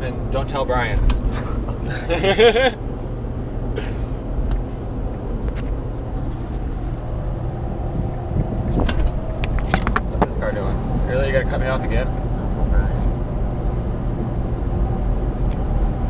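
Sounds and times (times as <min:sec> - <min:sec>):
road and engine drone in car: 0:00.0 - 0:16.0.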